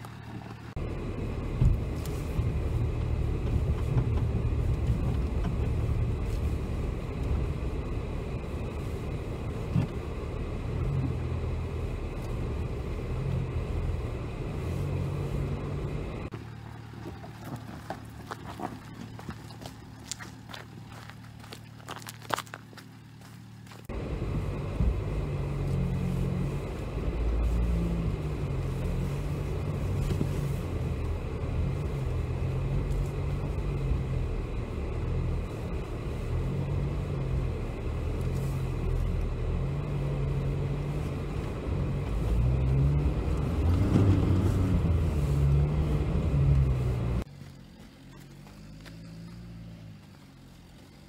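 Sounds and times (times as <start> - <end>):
car engine running under load: 0.0 - 51.0.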